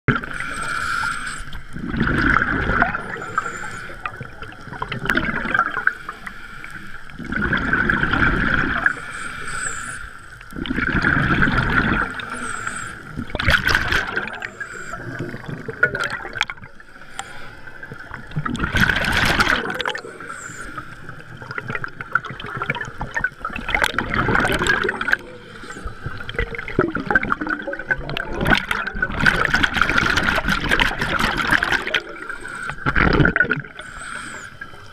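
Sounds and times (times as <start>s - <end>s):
exhaled bubbles underwater: 0.1s - 34.9s.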